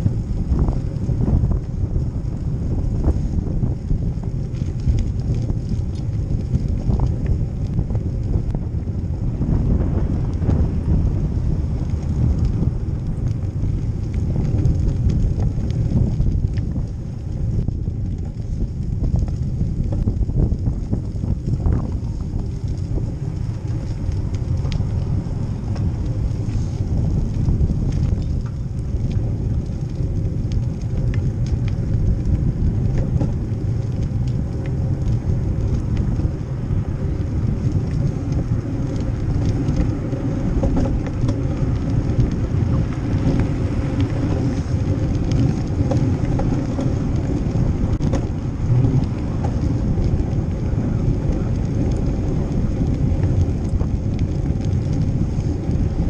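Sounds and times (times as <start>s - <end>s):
bicycle tyre and road noise: 0.0s - 56.0s
faint clicks and rattles: 0.0s - 56.0s
wind rumble on microphone: 0.0s - 56.0s.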